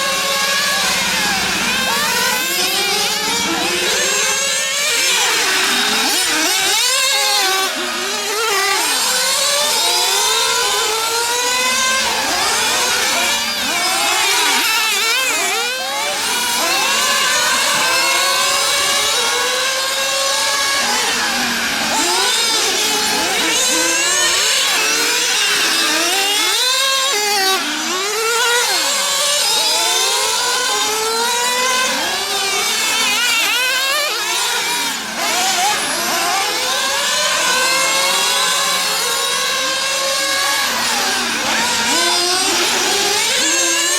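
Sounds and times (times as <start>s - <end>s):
rc car engines whining: 0.0s - 43.9s.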